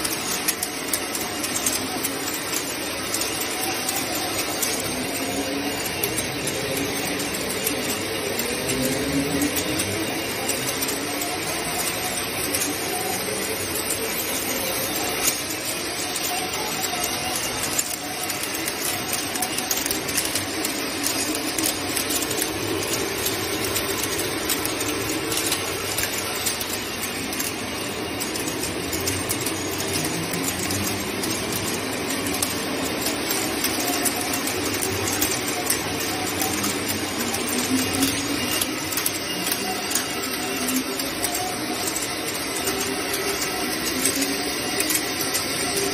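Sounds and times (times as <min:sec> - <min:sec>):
bead milling machine running: 0:00.0 - 0:45.9
clatter of stone beads: 0:00.0 - 0:45.9.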